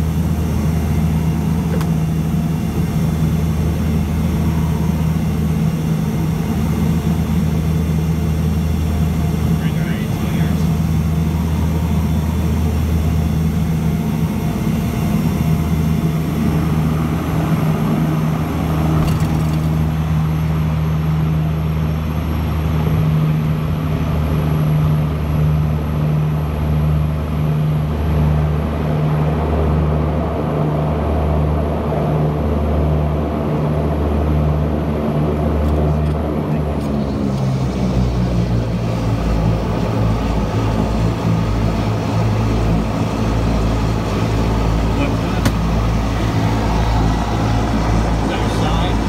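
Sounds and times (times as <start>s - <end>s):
high turbine whine: 0.0s - 49.0s
propeller and engine drone: 0.0s - 49.0s.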